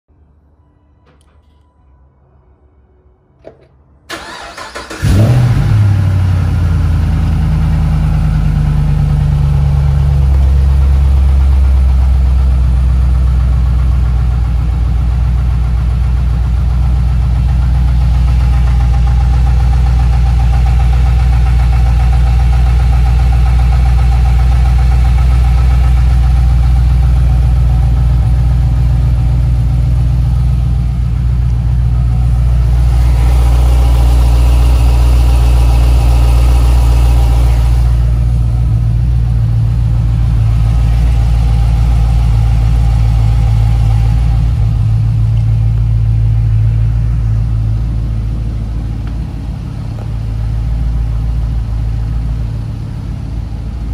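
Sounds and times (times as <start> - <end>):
engine idling: 3.4 - 53.9.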